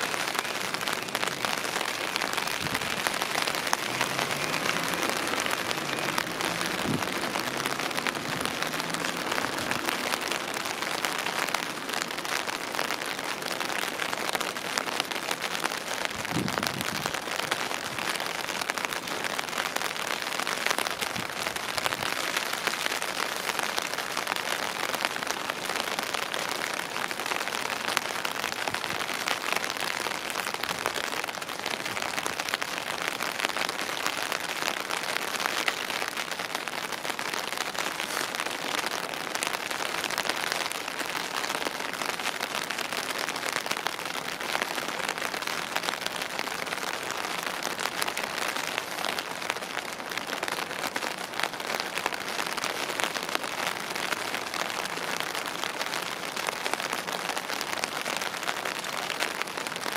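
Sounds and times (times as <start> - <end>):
rain on wet road: 0.0 - 59.9.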